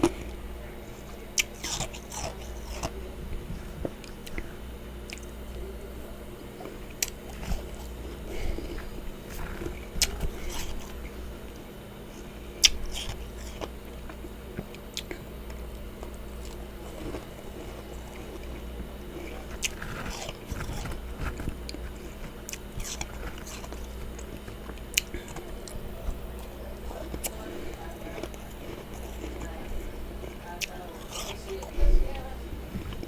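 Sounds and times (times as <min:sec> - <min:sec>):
chewing crunchy frost: 0:00.0 - 0:33.0
low background hum: 0:00.0 - 0:33.0.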